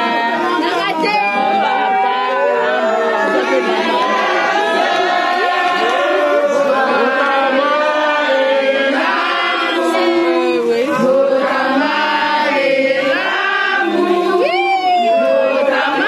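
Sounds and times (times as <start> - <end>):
crowd singing in chorus: 0.0 - 16.0.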